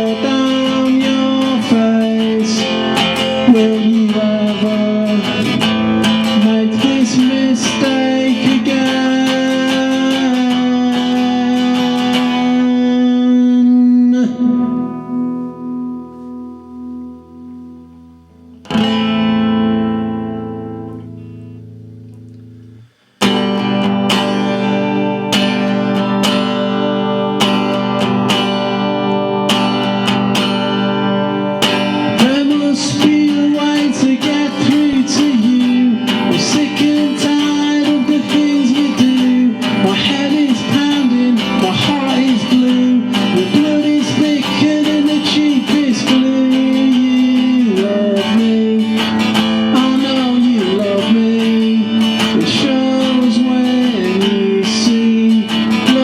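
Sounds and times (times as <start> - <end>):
acoustic guitar playing blues: 0.0 - 56.0.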